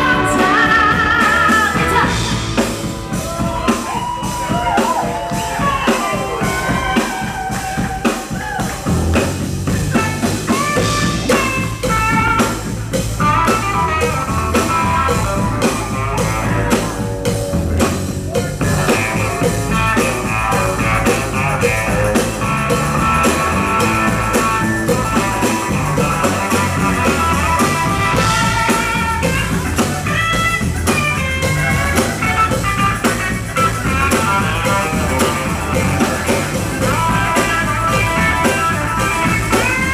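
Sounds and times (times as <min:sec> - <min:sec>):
band playing instrumental: 0:00.0 - 0:39.9.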